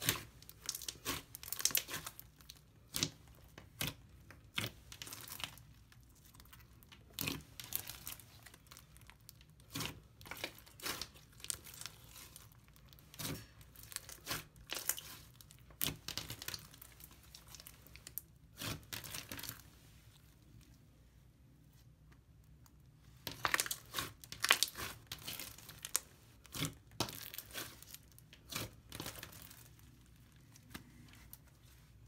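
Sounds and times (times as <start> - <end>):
slime crackling and popping: 0.0 - 19.6, 23.2 - 30.8.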